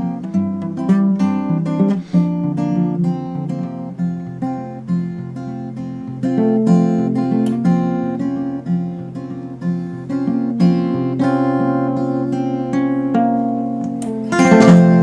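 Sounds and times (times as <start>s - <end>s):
fingerpicked guitar ballad: 0.0s - 15.0s.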